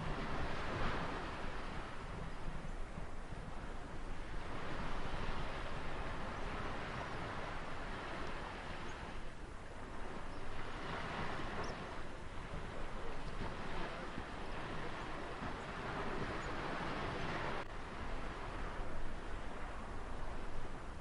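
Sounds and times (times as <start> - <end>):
ocean waves washing onto shore: 0.0 - 21.0.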